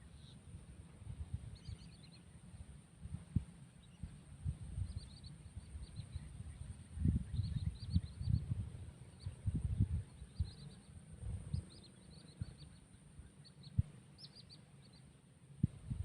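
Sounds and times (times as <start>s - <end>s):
small birds chirping: 0.0s - 16.0s
steady high hum: 0.0s - 16.0s.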